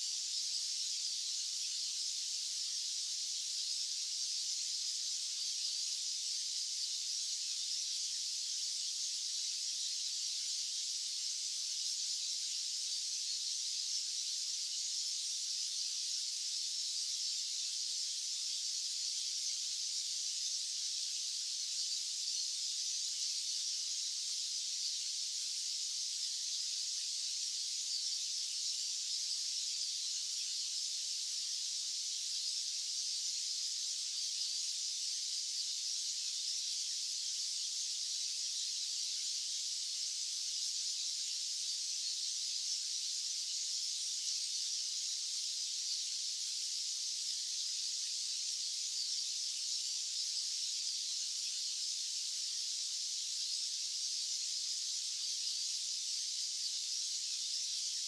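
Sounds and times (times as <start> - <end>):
high-pitched white noise hiss: 0.0 - 58.0.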